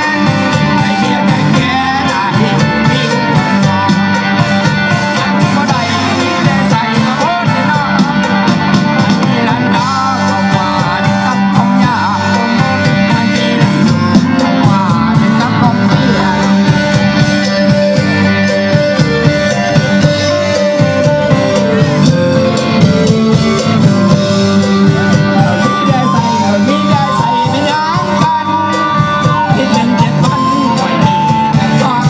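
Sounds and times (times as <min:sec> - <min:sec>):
electric guitar: 0:00.0 - 0:32.0
person singing: 0:00.0 - 0:32.0
steady drum beat: 0:00.0 - 0:32.0.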